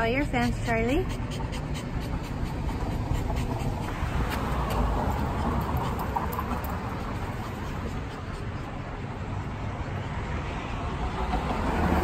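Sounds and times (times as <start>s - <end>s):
dog panting: 0.0s - 10.0s
street noise: 0.0s - 12.0s
vehicle passing: 0.0s - 12.0s.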